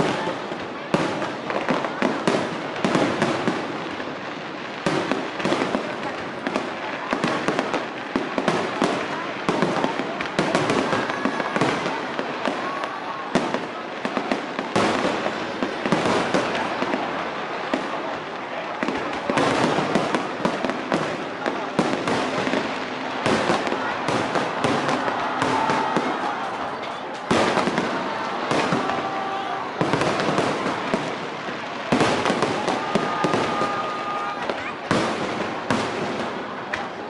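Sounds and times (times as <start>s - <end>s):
faint crowd voices: 0.0s - 37.0s
fireworks bangs and crackles: 0.0s - 37.0s.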